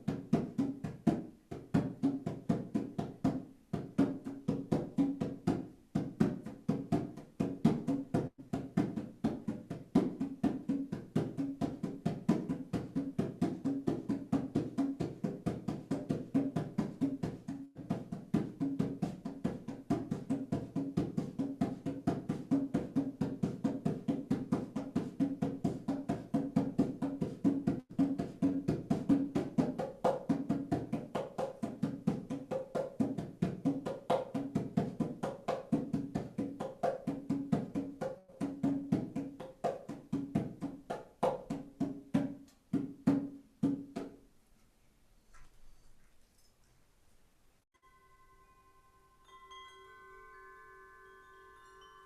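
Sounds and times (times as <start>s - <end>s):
hand drum beating: 0.0s - 44.2s.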